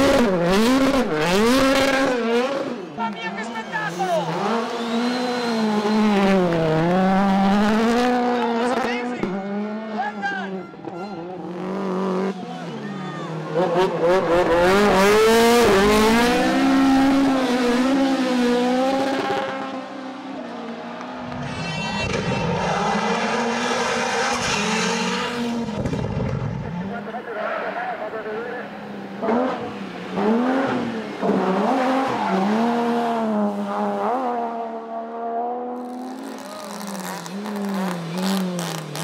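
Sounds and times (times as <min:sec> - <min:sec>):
rally car engine revving: 0:00.0 - 0:39.0.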